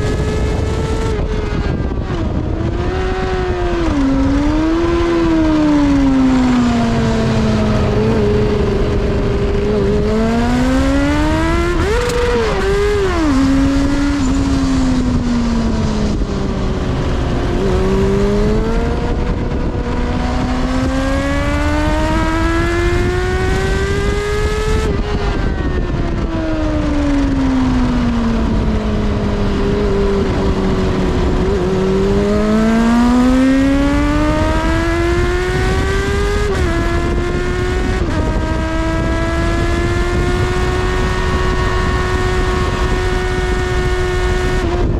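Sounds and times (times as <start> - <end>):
motorcycle engine revving hard: 0.0 - 44.9.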